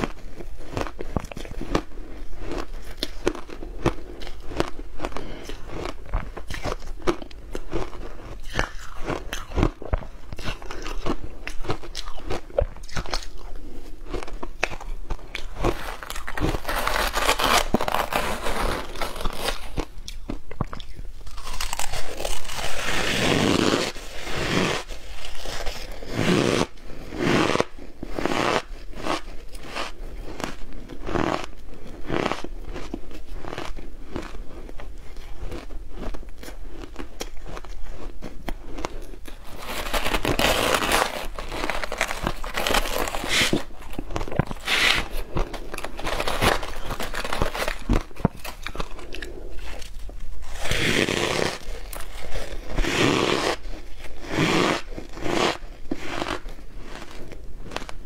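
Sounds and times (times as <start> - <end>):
ice crunching while chewed: 0.0 - 58.0.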